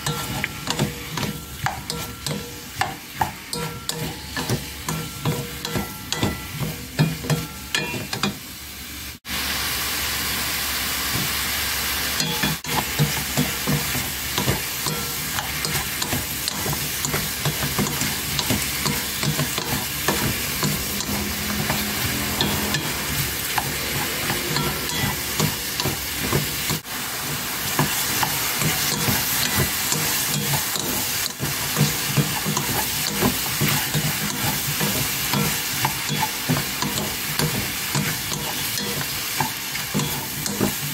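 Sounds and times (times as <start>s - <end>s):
vegetables sizzling in a pan: 0.0s - 40.9s.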